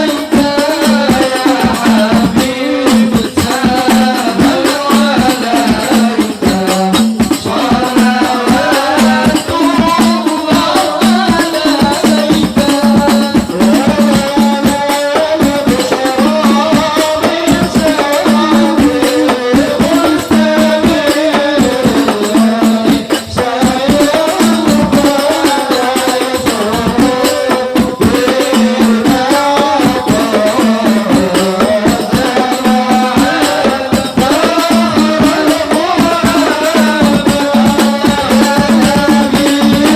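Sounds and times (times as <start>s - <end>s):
drum beat: 0.0s - 39.9s
person singing: 0.0s - 39.9s.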